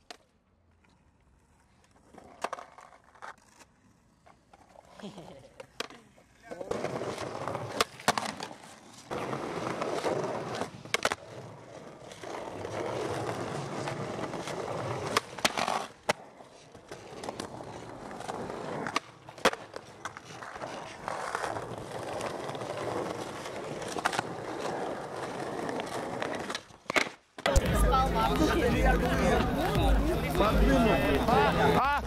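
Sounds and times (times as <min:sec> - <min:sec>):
skateboard clacks: 0:00.0 - 0:31.8
skateboard wheels rolling on stone: 0:00.0 - 0:31.8.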